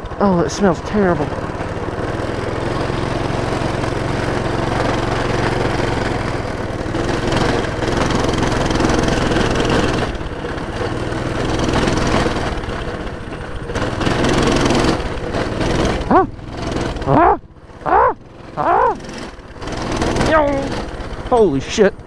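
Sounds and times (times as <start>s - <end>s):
minibike engine revving: 0.0s - 22.0s.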